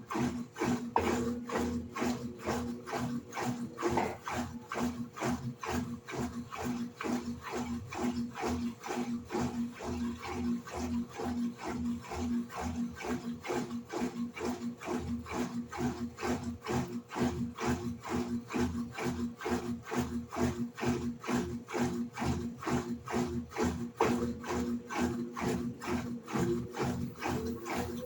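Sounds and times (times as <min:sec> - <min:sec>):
washing machine agitating: 0:00.0 - 0:28.0.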